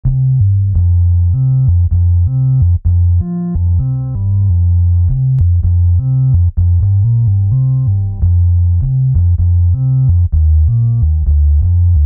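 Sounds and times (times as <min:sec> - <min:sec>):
electronic synthesizer music: 0:00.2 - 0:12.0.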